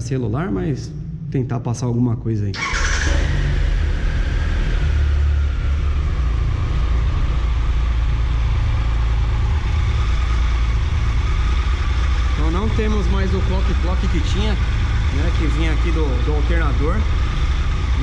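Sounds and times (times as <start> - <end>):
motorcycle engine idling: 2.6 - 18.0.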